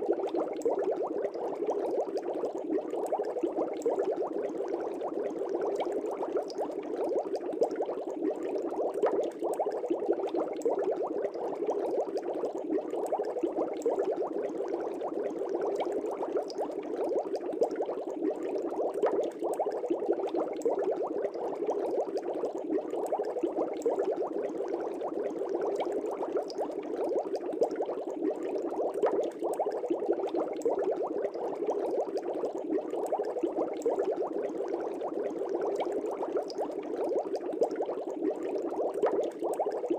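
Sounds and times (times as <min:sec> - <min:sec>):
aquarium air bubbles: 0:00.0 - 0:39.9.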